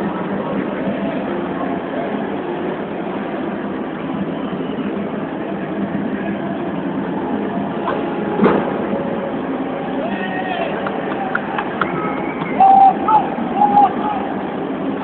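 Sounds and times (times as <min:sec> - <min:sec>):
crowd noise in a large hall: 0:00.0 - 0:15.0.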